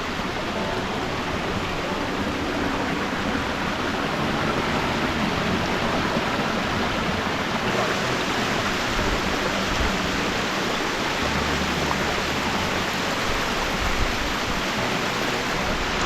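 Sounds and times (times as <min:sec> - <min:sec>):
waterfall splashing into pools: 0:00.0 - 0:16.0.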